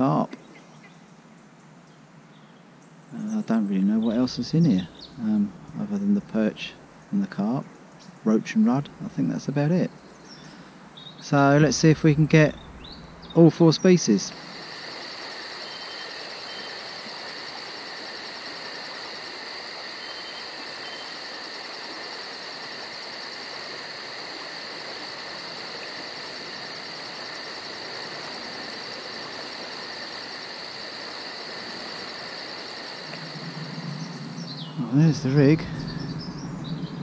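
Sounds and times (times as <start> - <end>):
insects chirping: 0.0 - 37.0
steady outdoor hiss: 0.0 - 37.0.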